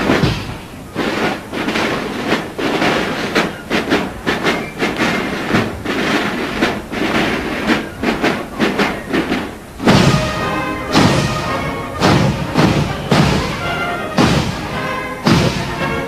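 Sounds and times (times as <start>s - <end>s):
marching band drums: 0.0s - 16.0s
marching band music: 0.0s - 16.0s.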